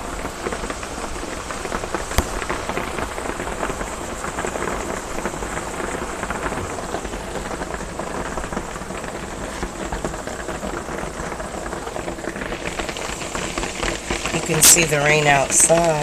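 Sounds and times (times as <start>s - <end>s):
heavy rain on a metal roof: 0.0s - 16.0s.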